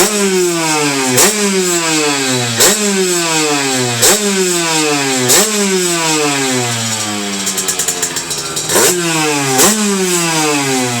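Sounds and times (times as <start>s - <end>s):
moped engine revving and idling: 0.0s - 11.0s.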